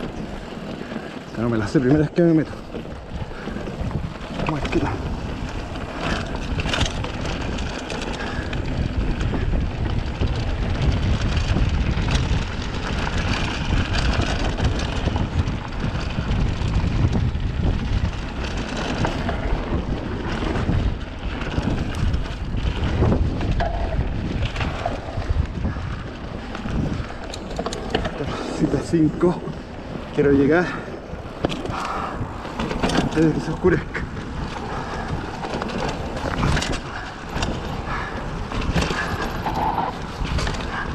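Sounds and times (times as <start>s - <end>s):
bike knocks and rattles: 0.0s - 40.9s
tyres rolling on dirt: 0.0s - 40.9s
wind buffeting microphone: 0.0s - 40.9s.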